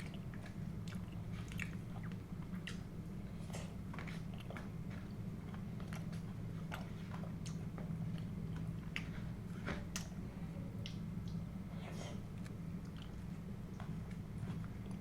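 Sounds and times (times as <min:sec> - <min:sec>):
chewing and biting food: 0:00.0 - 0:10.2, 0:10.8 - 0:15.0.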